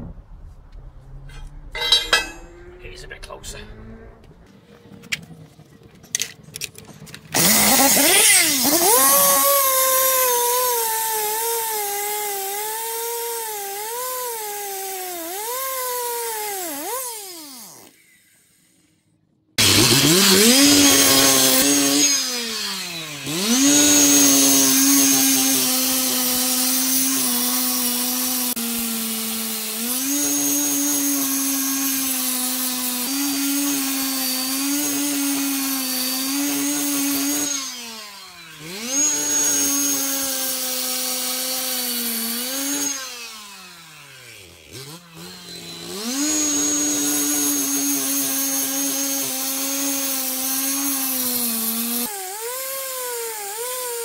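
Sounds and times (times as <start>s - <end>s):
cut-off saw cutting concrete: 7.3s - 18.8s, 19.6s - 54.0s.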